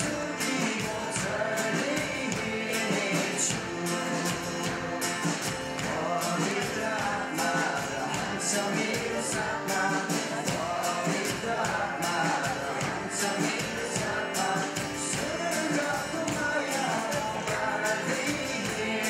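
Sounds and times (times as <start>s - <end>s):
group singing: 0.0s - 19.0s
worship band playing: 0.0s - 19.0s.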